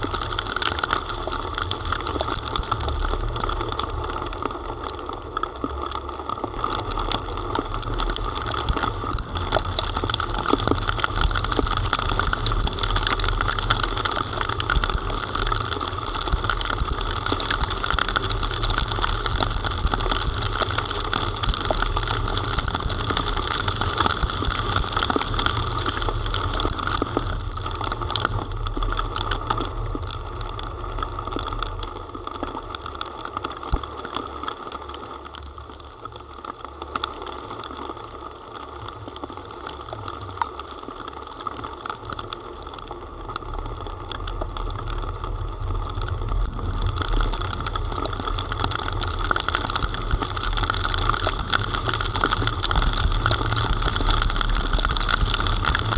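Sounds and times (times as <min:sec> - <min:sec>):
low rumble of travel on wet street: 0:00.0 - 0:33.8, 0:39.9 - 0:55.9
heavy rain pattering on camera: 0:00.0 - 0:55.9.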